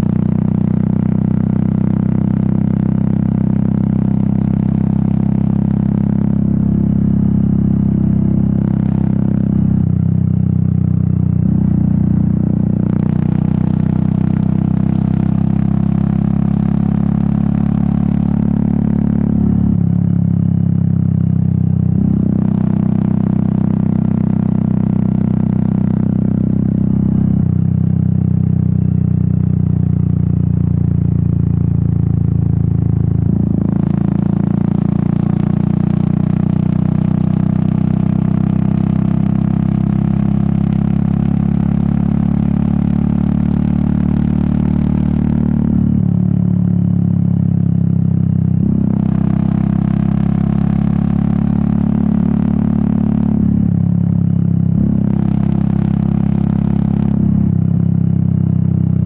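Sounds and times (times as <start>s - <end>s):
motorcycle engine and exhaust: 0.0s - 59.0s.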